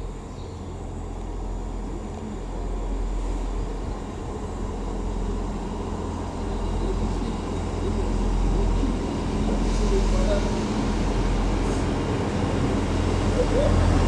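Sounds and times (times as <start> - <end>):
train engine rumbling: 0.0 - 14.0.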